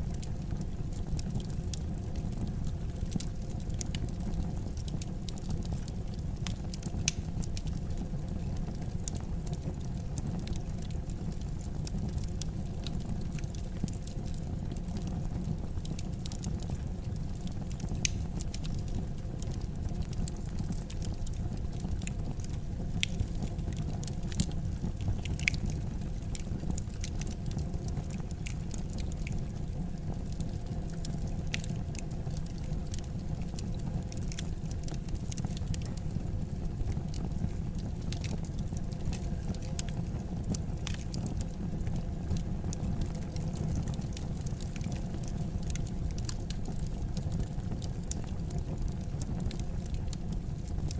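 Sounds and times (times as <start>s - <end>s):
wood fire burning: 0.0s - 50.9s.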